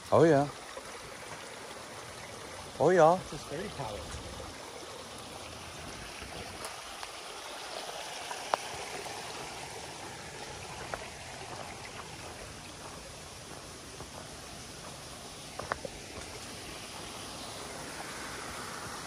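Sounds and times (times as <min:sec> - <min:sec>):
brook babbling: 0:00.0 - 0:19.0.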